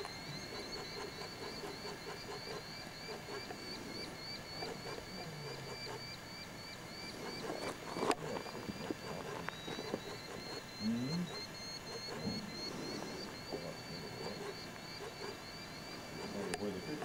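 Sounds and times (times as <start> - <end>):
frogs calling in chorus: 0.0 - 17.0.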